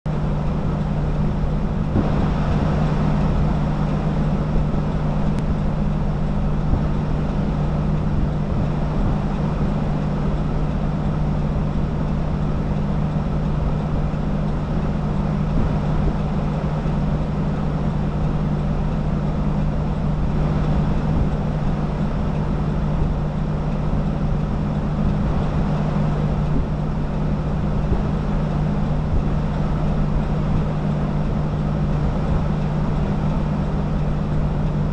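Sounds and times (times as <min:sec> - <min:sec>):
vehicle road and engine noise: 0:00.1 - 0:34.9.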